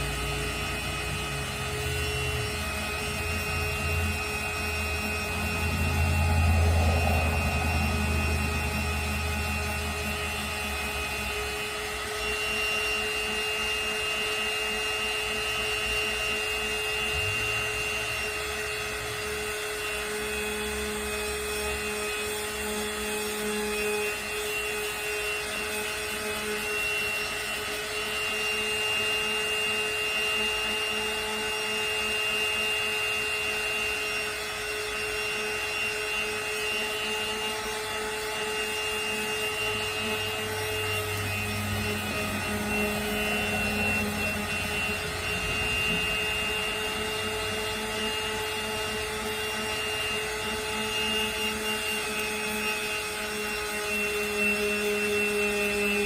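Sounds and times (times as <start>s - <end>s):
power sander on wood: 0.0s - 56.0s.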